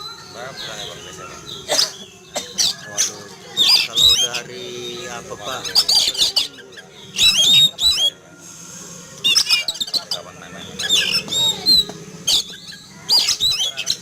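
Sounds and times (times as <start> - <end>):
magpie-robin singing whistled phrases: 0.0 - 8.2, 9.2 - 14.0.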